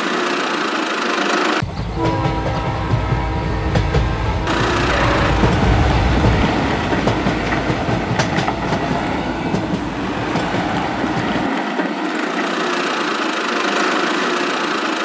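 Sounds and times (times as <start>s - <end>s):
train clattering on rails: 1.0s - 15.0s.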